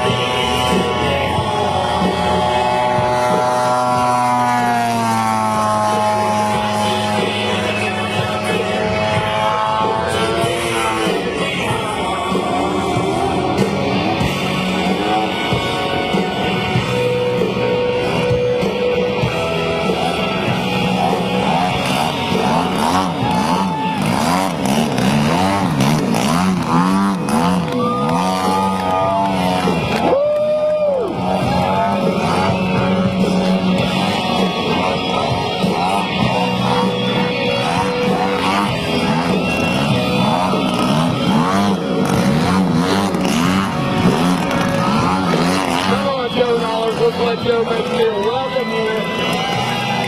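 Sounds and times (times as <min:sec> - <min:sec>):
engine running at low pitch: 0:00.0 - 0:50.0
model airplane engines passing: 0:00.0 - 0:50.0.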